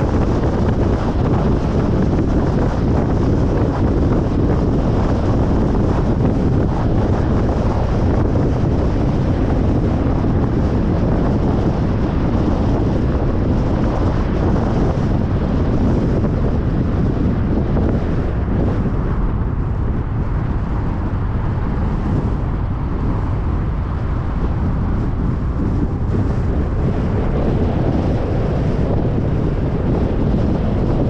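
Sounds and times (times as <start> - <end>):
car road noise: 0.0 - 31.0.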